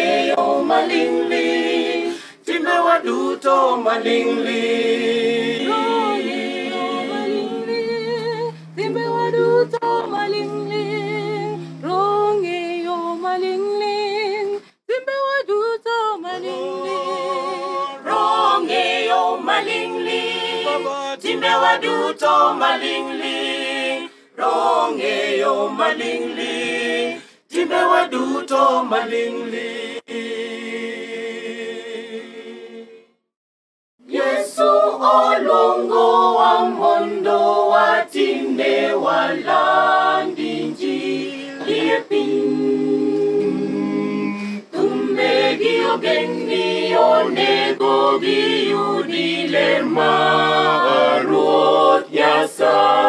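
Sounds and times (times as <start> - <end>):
choir singing a hymn a cappella: 0.0 - 33.1, 34.0 - 53.0.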